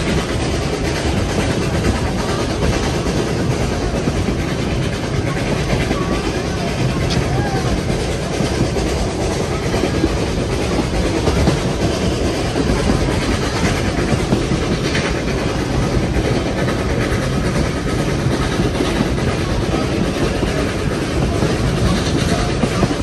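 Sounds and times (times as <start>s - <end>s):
rail clicks: 0.0s - 23.0s
train wheels rumbling on rails: 0.0s - 23.0s.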